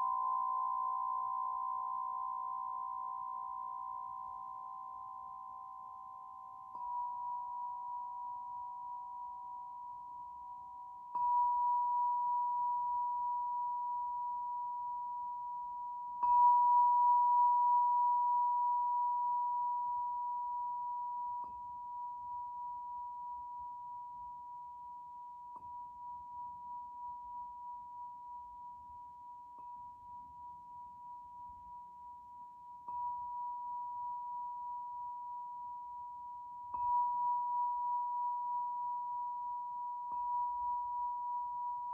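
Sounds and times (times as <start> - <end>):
lower ringing tone: 0.0 - 41.9
tuning fork ringing: 0.0 - 41.9.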